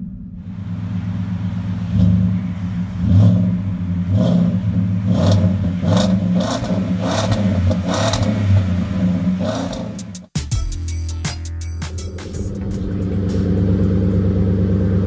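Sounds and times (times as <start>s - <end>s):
truck engine revving: 0.0s - 10.4s, 11.8s - 15.0s.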